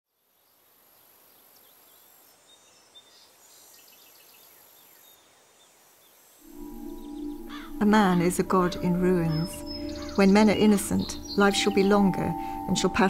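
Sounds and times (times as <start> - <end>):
high-pitched hiss: 0.4 - 13.0
birds chirping: 1.4 - 13.0.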